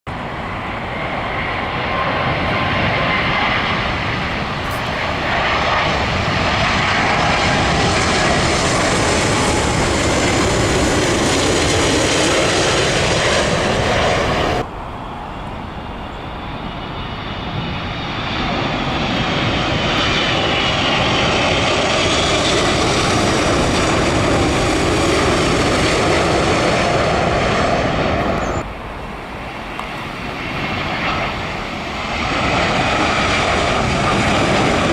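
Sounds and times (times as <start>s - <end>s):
jet airliner passing overhead: 0.1s - 34.9s.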